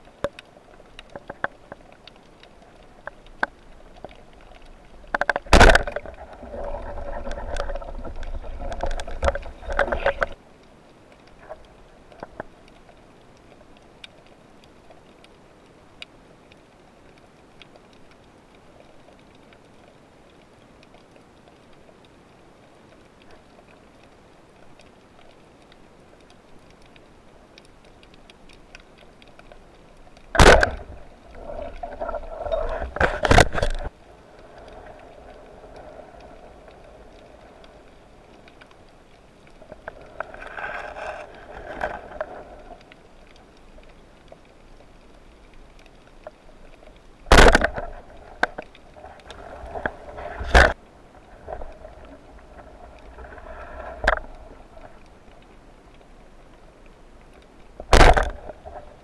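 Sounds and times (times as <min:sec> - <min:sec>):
low steady underwater hiss: 0:00.0 - 0:59.0
rushing gurgling water: 0:00.0 - 0:59.0.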